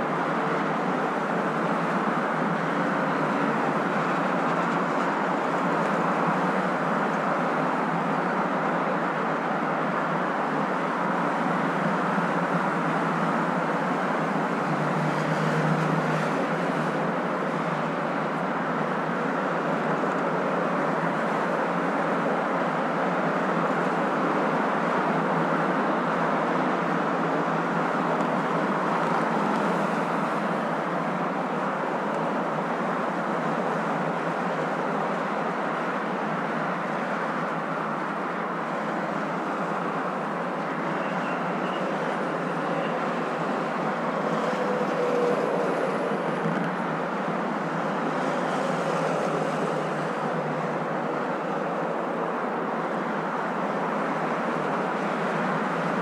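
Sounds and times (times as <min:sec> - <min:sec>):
car road and tyre noise: 0:00.0 - 0:56.0.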